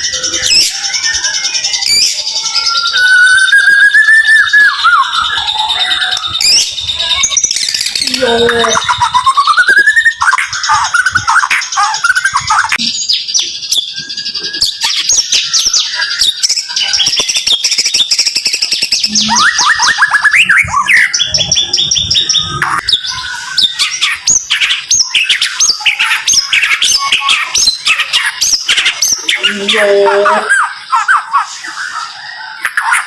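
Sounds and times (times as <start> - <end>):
bird singing whistles and trills: 0.0 - 33.0.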